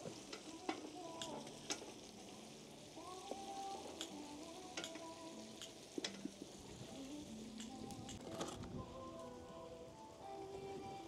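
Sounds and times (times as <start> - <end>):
wood fire popping and crackling: 0.0 - 10.8
stew sizzling in a pot: 0.0 - 11.0.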